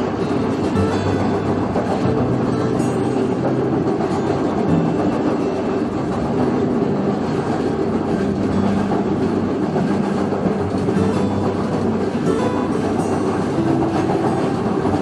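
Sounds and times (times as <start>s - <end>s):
clickety-clack of wheels: 0.0s - 15.0s
train wheels rumbling on rails: 0.0s - 15.0s.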